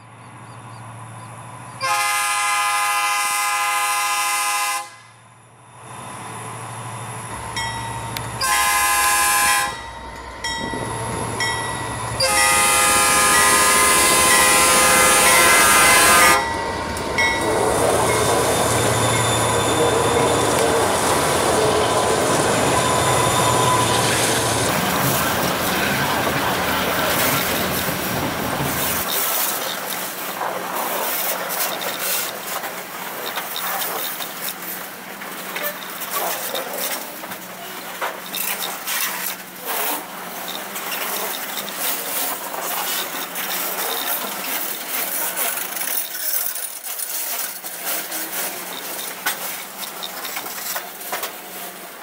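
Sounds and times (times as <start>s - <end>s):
diesel locomotive rumble: 0.0s - 46.6s
train wheels clanking over rail joints: 7.5s - 51.8s.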